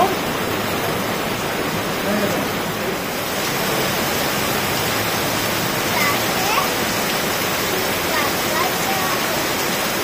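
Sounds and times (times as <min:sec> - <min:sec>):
rain pouring down: 0:00.0 - 0:10.0.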